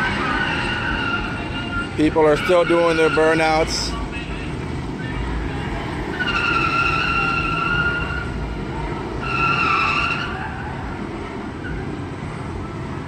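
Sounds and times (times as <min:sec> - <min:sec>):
car tyres squealing: 0:00.0 - 0:12.8.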